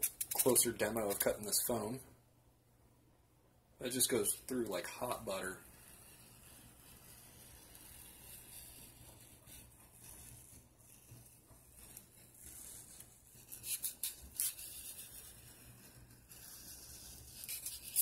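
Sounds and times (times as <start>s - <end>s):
sharp scratchy rubs: 0.0s - 1.9s, 3.9s - 18.0s.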